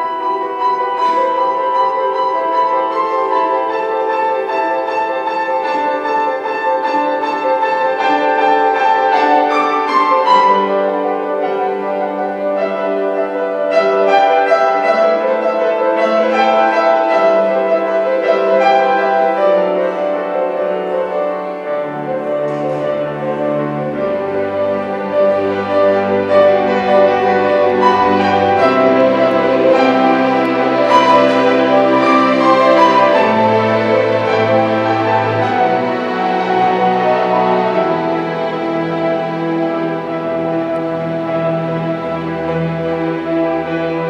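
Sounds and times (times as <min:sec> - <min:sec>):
piano and string orchestra: 0:00.0 - 0:44.0.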